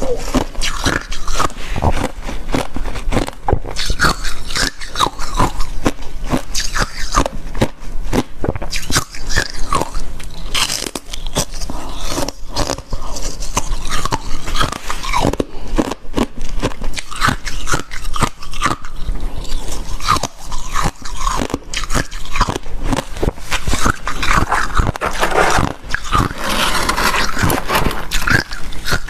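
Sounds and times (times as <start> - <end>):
chewing crunchy ice: 0.0 - 29.0.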